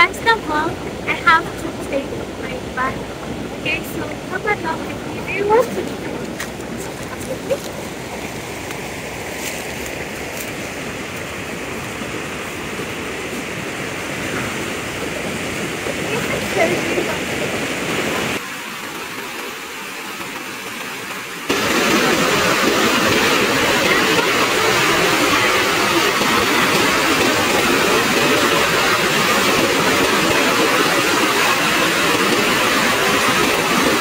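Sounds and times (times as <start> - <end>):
rushing river water: 0.0 - 34.0.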